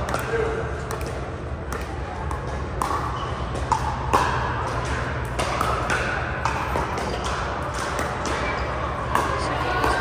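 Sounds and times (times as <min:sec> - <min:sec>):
paddles striking plastic balls: 0:00.0 - 0:10.0
steady low hum: 0:00.0 - 0:10.0.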